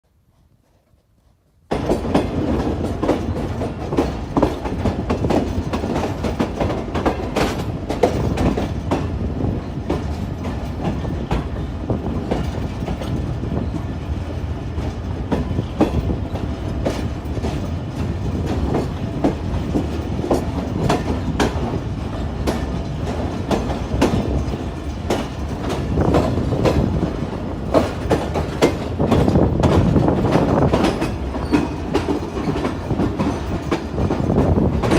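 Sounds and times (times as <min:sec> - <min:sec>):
train wheels rumbling on track: 0:00.1 - 0:34.9
rail joints clattering: 0:01.7 - 0:34.9.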